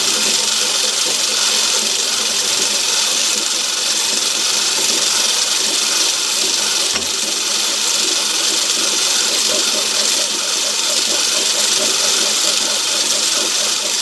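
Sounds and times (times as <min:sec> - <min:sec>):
lathe whirring: 0:00.0 - 0:14.0.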